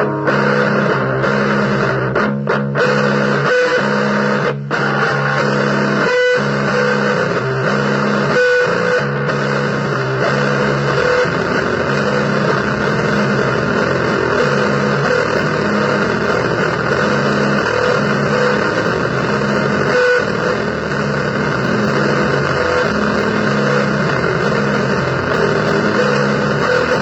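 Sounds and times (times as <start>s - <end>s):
distorted electric guitar noise: 0.0s - 27.0s.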